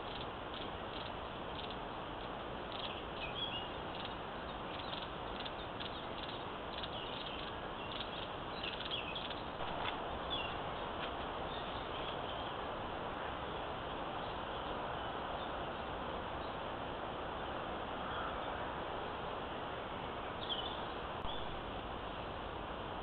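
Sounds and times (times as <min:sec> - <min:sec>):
small birds chirping: 0:00.0 - 0:16.7, 0:20.2 - 0:22.4
steady hiss: 0:00.0 - 0:23.0.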